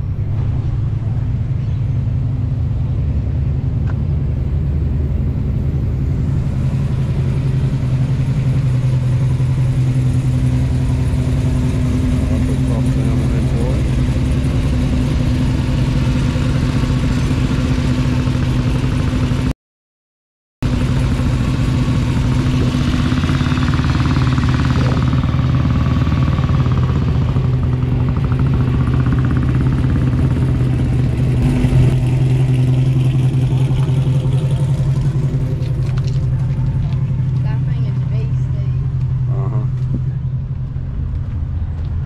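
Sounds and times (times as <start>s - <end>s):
car engine idling: 0.0s - 19.5s, 20.6s - 42.0s.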